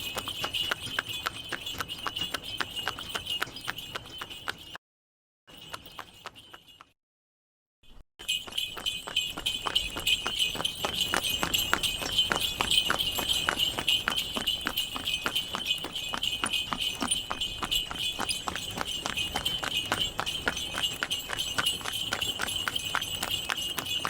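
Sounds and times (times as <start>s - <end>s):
harness bells jingling: 0.0s - 4.8s, 5.5s - 7.0s, 7.9s - 24.0s
horse hooves clip-clopping: 0.0s - 4.8s, 5.5s - 6.9s, 8.2s - 24.0s.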